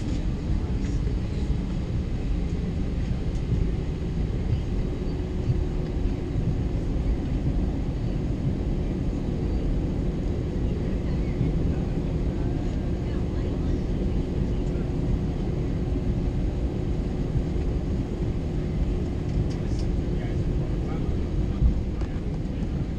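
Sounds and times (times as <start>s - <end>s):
faint steady hum: 0.0s - 22.9s
jet engine cabin rumble: 0.0s - 22.9s.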